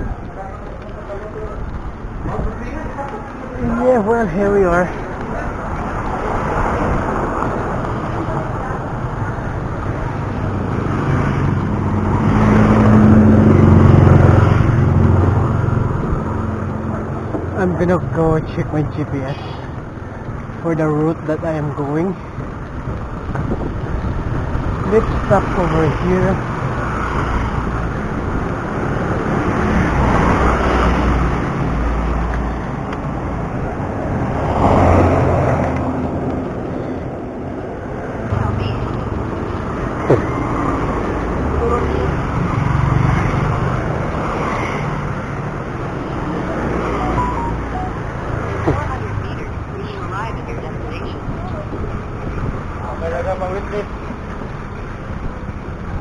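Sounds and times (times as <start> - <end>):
motor vehicle passing: 0.0 - 56.0
road and wind noise: 0.0 - 56.0.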